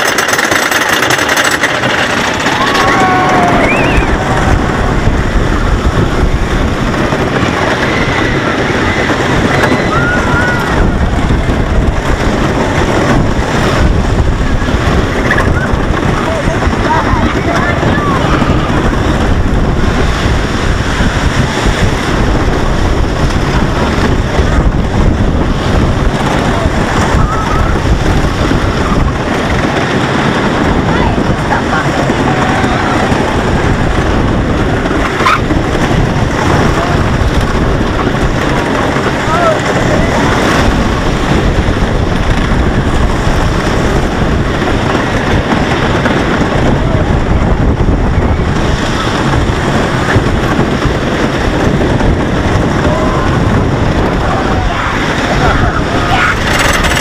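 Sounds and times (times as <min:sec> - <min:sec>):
roller coaster rumbling on track: 0:00.0 - 0:57.0
wind rushing over microphone: 0:00.0 - 0:57.0
riders yelling and screaming: 0:00.1 - 0:57.0.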